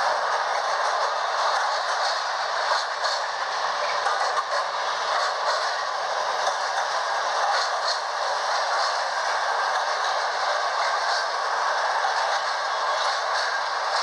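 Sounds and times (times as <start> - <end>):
model train wheels rattling on rails: 0.0 - 14.0.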